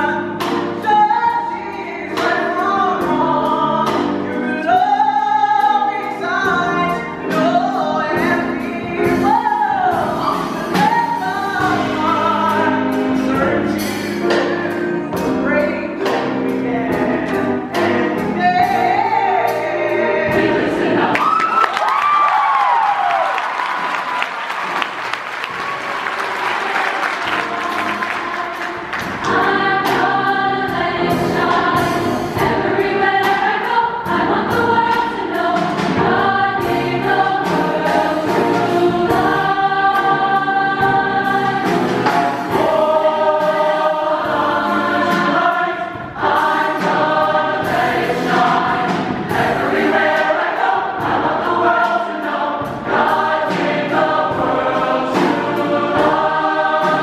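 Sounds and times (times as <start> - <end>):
choir singing in harmony: 0.0 - 21.8, 22.6 - 57.0.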